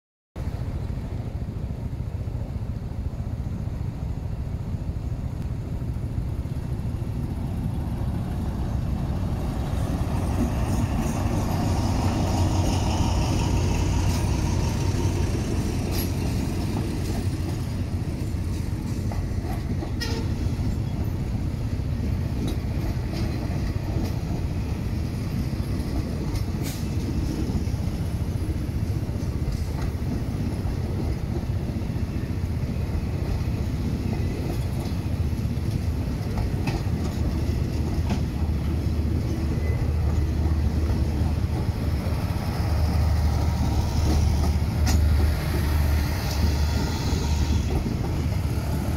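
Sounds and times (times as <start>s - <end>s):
train rumbling past: 0.4s - 48.9s
wheels clacking on rails: 5.4s - 48.9s.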